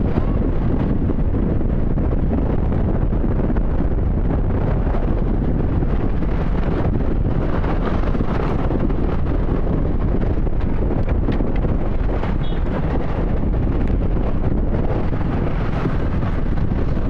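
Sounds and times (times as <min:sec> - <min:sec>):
motorcycle running: 0:00.0 - 0:17.0
road noise: 0:00.0 - 0:17.0
wind rumble on microphone: 0:00.0 - 0:17.0.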